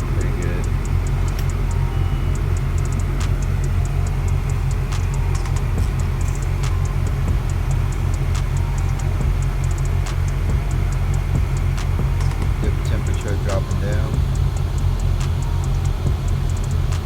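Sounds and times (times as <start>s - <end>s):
air conditioning blower: 0.0s - 17.0s
car engine idling: 0.0s - 17.0s
light irregular ticking: 0.0s - 17.0s.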